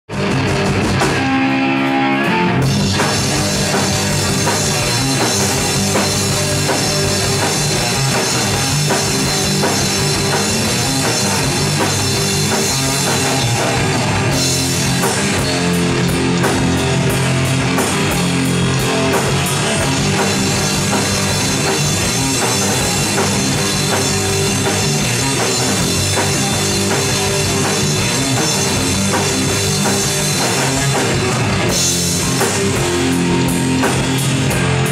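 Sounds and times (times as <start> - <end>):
electric bass: 0.0 - 34.9
drum kit: 0.1 - 34.9
electric guitar: 0.1 - 34.9.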